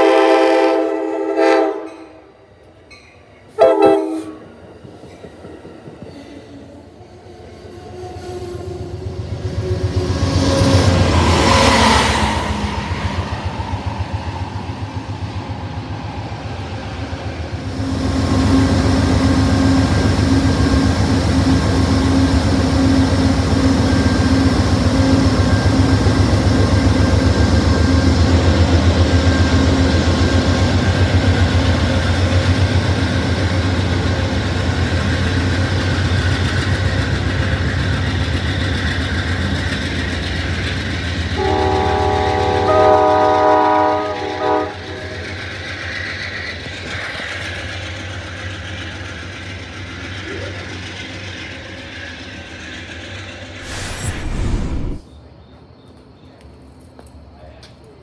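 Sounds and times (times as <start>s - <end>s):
train cars rolling past: 1.6s - 58.0s.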